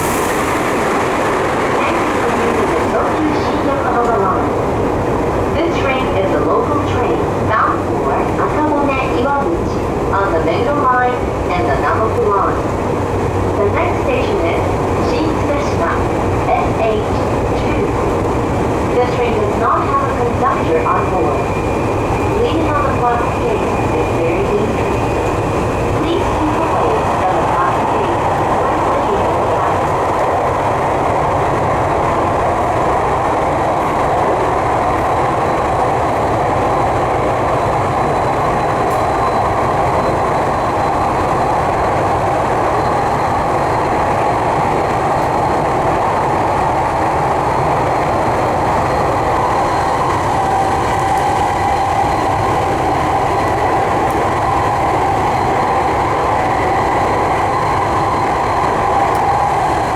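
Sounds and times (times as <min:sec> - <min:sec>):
electric train rolling rumble: 0:00.0 - 0:59.9.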